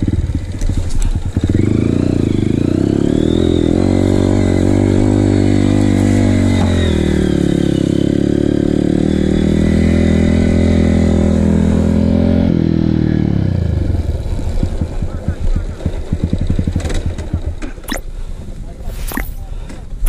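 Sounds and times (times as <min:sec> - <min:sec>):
dirt bike engine under throttle: 0:00.0 - 0:18.0.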